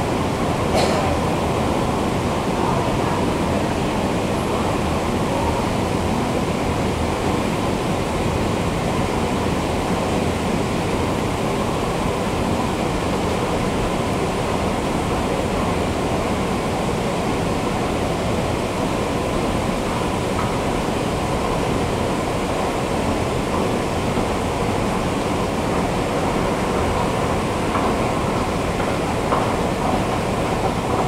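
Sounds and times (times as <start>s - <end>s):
escalator rumble and hiss: 0.0s - 31.0s.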